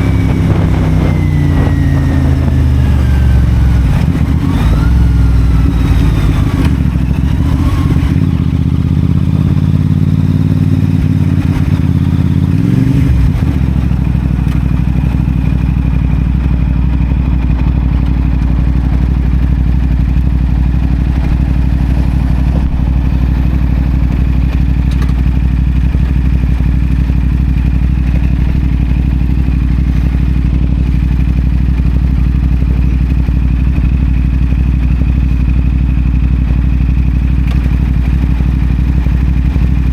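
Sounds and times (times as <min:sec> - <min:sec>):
motorcycle engine running and idling: 0:00.0 - 0:39.9.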